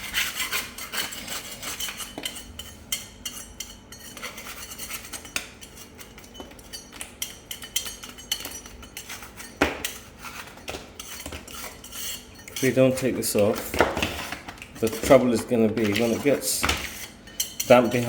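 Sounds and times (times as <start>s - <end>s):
hand scraper scraping plaster: 0.0s - 6.6s, 7.5s - 18.0s.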